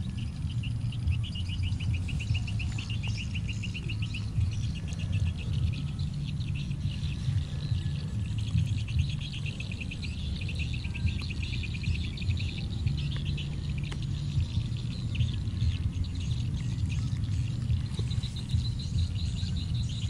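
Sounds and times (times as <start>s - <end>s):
high-pitched chirping trills: 0.0s - 20.0s
steady low hum: 0.0s - 20.0s.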